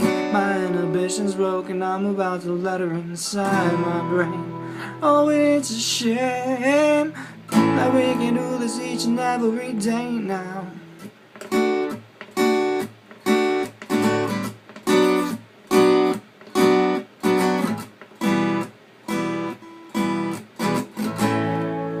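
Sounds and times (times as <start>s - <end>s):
acoustic guitar strummed chords: 0.0s - 22.0s.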